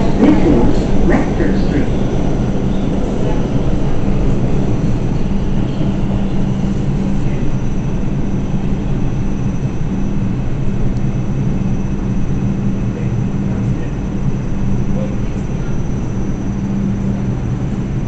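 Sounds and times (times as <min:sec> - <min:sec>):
constant low hum: 0:00.0 - 0:18.0
subway train rumbling: 0:00.0 - 0:18.0.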